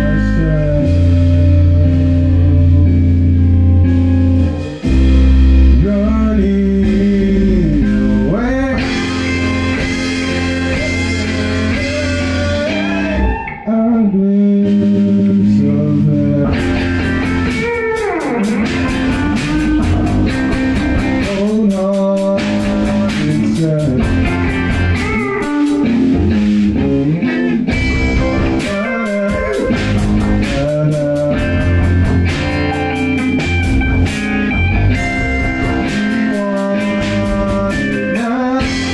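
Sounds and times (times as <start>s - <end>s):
blues-rock band playing: 0.0s - 38.9s
electric guitar lead lines: 0.0s - 38.9s.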